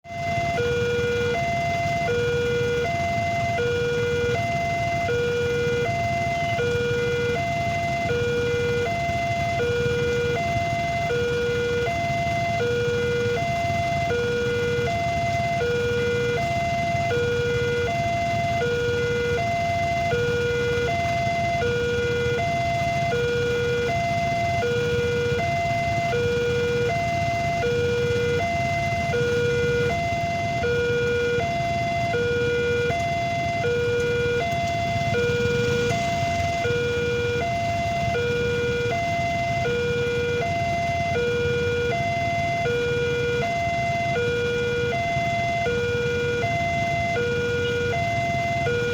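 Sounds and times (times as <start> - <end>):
two-tone level crossing alarm: 0.0 - 48.9.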